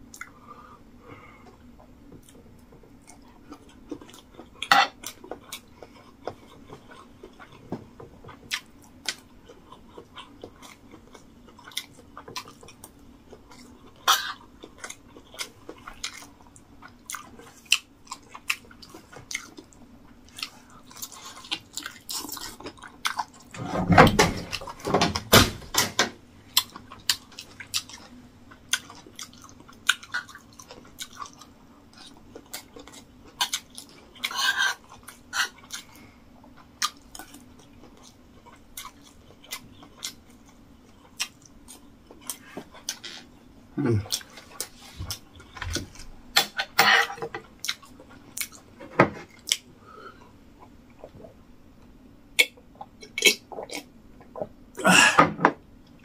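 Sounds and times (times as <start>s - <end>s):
chewing food: 1.5s - 23.6s, 26.5s - 46.1s, 47.3s - 54.8s.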